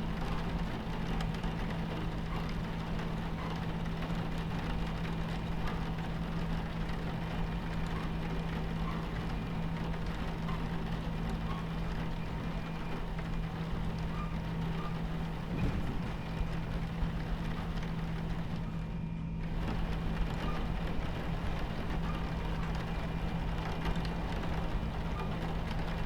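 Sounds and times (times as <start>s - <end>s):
rain on window: 0.0s - 26.0s
train rumbling over tracks: 0.0s - 26.0s.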